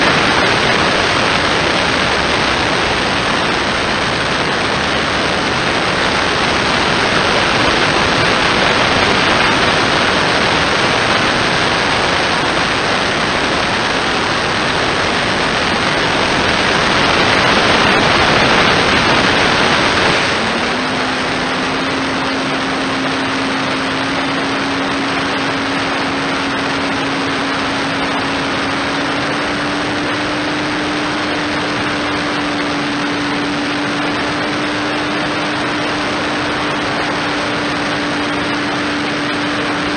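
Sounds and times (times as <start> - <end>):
electric motor and propeller hum: 0.0 - 39.9
wind rushing over camera: 0.0 - 39.9.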